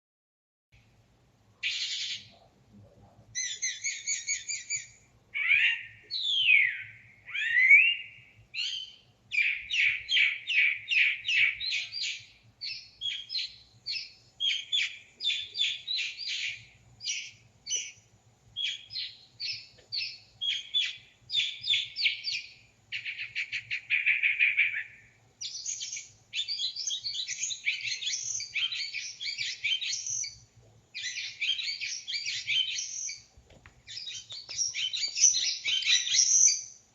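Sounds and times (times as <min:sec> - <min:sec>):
songbird singing: 0:01.6 - 0:36.9.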